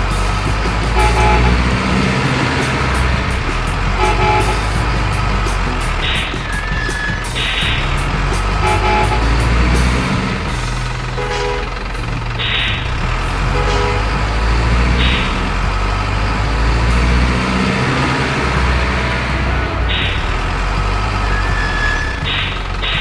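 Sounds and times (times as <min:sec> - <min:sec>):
truck engine rumble: 0:00.0 - 0:23.0
truck horn toots: 0:00.0 - 0:23.0.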